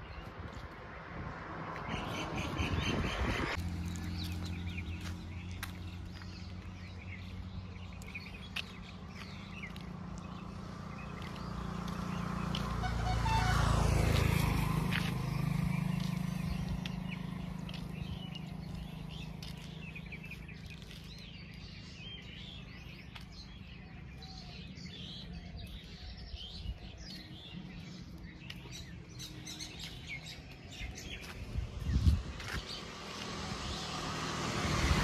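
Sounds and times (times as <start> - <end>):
vehicle engine passing: 1.0 - 22.7, 27.4 - 35.0
birds chirping: 1.6 - 35.0.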